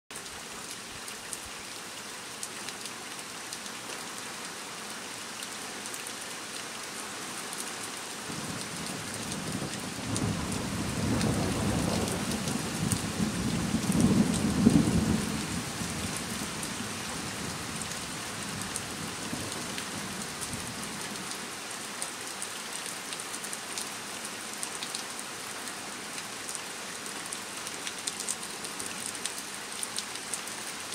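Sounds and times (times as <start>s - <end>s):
rain on a slate roof: 0.1s - 30.9s.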